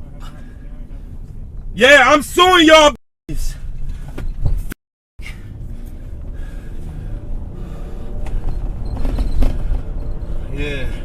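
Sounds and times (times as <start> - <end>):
low steady rumble: 0.0 - 1.8, 3.3 - 11.0.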